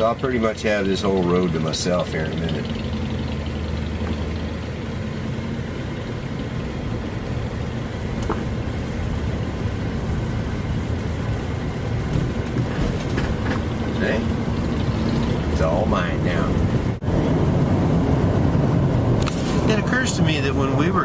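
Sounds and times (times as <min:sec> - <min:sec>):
car engine running: 0:00.0 - 0:21.0
road noise: 0:00.0 - 0:21.0.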